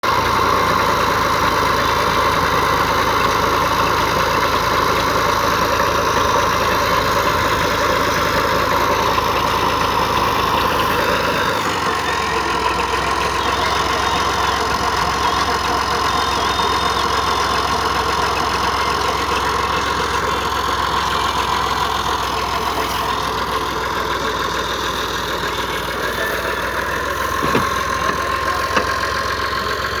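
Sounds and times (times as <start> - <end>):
tractor engine idling: 0.0 - 30.0.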